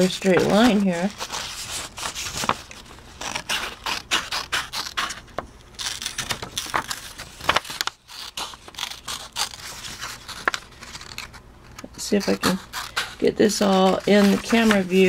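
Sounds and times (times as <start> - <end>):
scissors snipping paper: 0.1 - 15.0.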